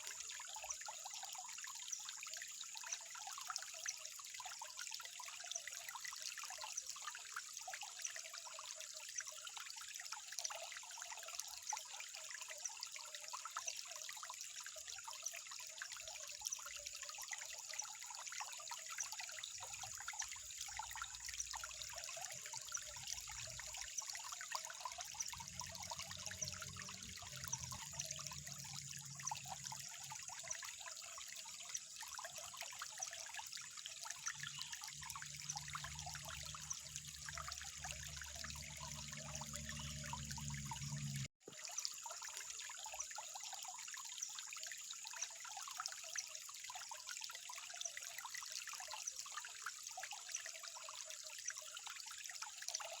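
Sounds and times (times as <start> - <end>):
water trickling and bubbling: 0.0 - 53.0.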